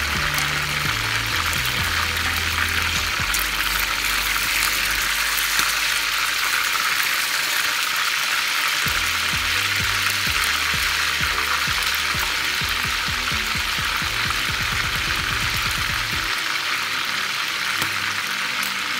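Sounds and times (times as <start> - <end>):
chicken sizzling in hot oil: 0.0 - 18.9.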